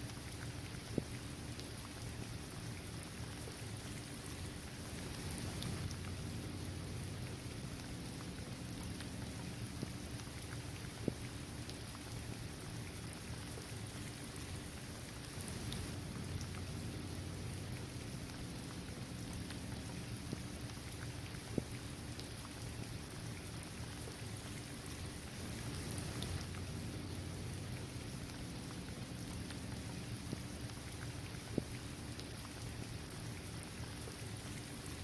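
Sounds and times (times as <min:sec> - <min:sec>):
steady rain falling: 0:00.0 - 0:35.0
water drips: 0:00.0 - 0:35.0.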